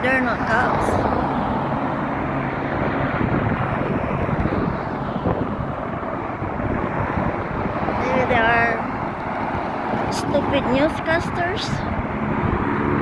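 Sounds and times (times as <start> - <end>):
aircraft drone overhead: 0.0 - 13.0.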